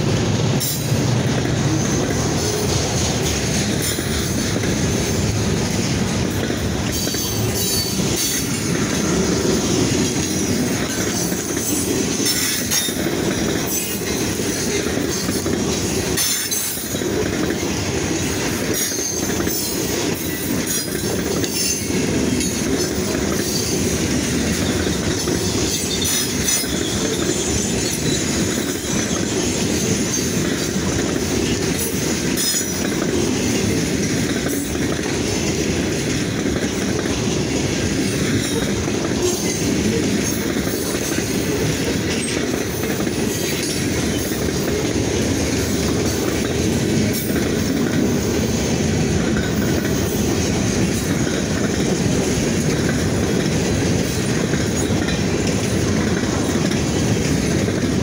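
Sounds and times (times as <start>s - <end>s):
freight train wheels rumbling on rails: 0.0s - 58.0s
wheels clacking over rail joints: 0.0s - 58.0s.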